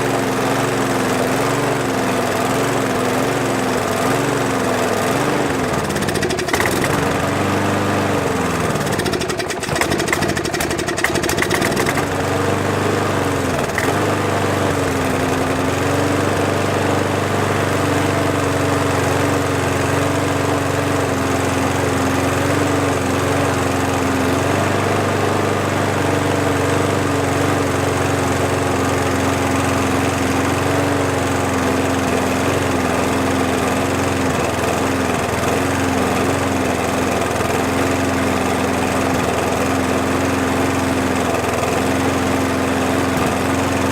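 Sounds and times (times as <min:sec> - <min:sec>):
lawn mower engine running unevenly: 0:00.0 - 0:43.9.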